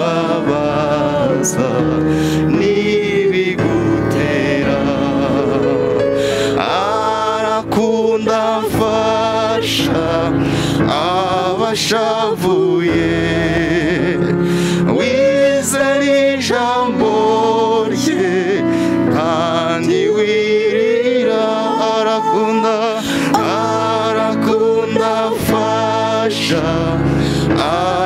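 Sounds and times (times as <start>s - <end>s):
gospel song with singing: 0.0s - 28.0s.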